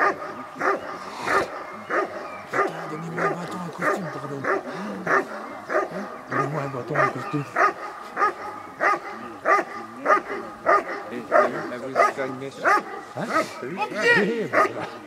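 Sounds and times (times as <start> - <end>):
dog barking rhythmically: 0.0 - 13.5, 14.4 - 15.0.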